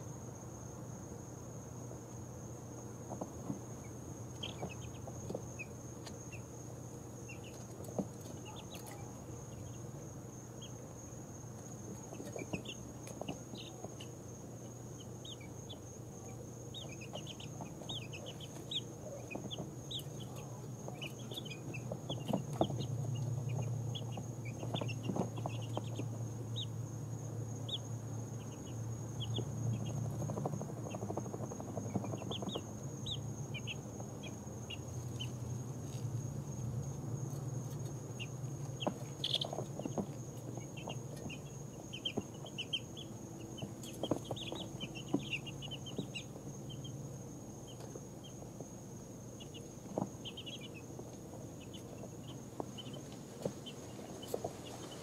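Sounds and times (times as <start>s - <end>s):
steady low hum: 0.0s - 55.0s
chicks peeping: 2.0s - 55.0s.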